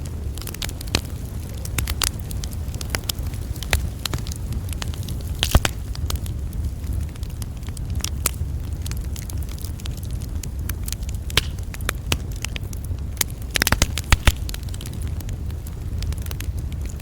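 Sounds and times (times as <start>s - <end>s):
burning wood popping and snapping: 0.0s - 17.0s
low rumble of wind and flame: 0.0s - 17.0s.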